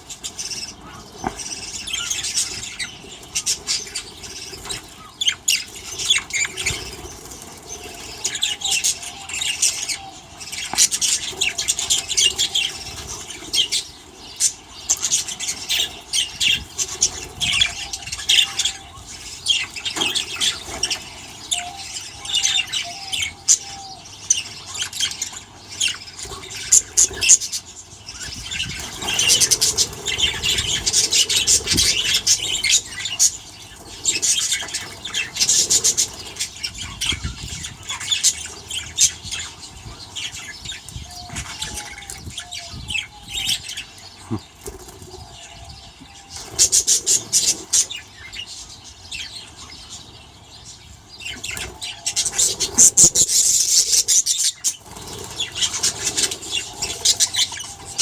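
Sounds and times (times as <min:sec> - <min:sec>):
budgerigars chattering and chirping: 0:00.0 - 0:58.0.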